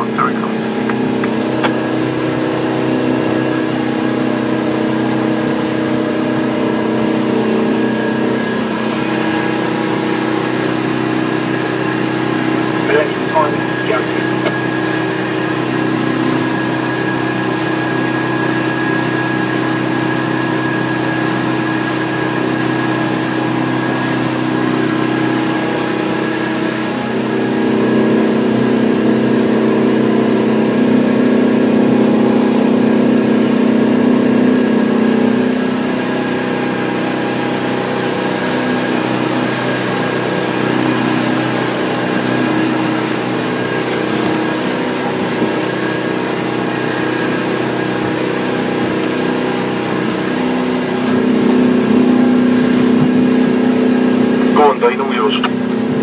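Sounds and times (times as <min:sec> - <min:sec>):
boat engine humming: 0:00.0 - 0:30.8, 0:36.9 - 0:56.0.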